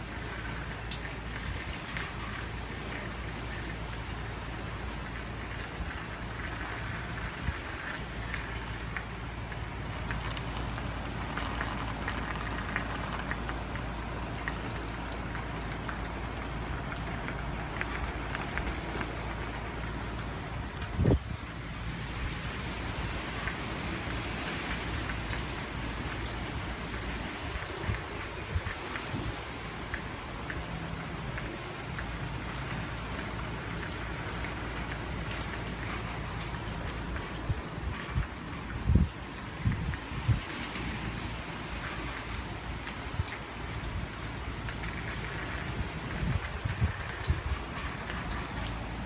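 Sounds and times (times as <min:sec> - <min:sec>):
heavy rain: 0:00.0 - 0:49.0
low wind rumble: 0:00.0 - 0:49.0.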